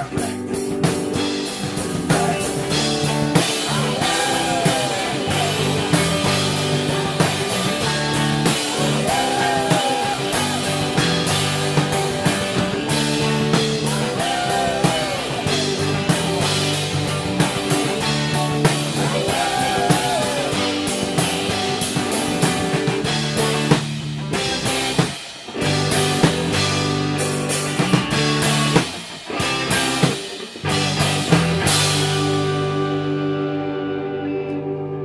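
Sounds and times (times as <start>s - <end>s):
drum kit: 0.0s - 33.7s
electric guitar chords: 0.0s - 35.0s.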